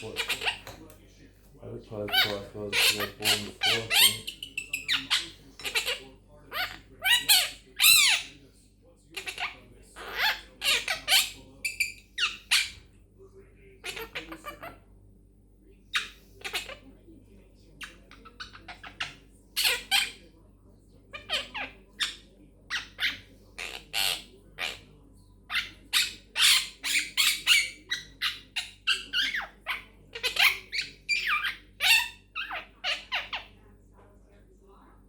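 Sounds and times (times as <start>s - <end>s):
parrot squawking and chirping: 0.0s - 0.8s, 2.0s - 8.4s, 9.1s - 12.9s, 13.8s - 14.9s, 15.9s - 16.9s, 17.8s - 20.3s, 21.1s - 33.6s.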